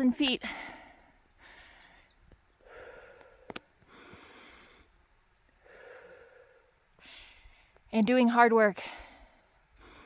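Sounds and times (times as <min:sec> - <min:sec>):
woman breathing heavily: 0:00.3 - 0:07.8, 0:08.8 - 0:10.0.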